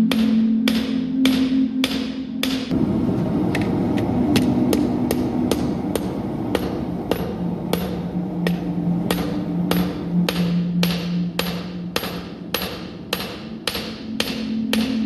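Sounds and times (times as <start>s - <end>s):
hammer striking steel on anvil: 0.0s - 2.8s, 4.3s - 15.0s
low hum: 1.0s - 15.0s.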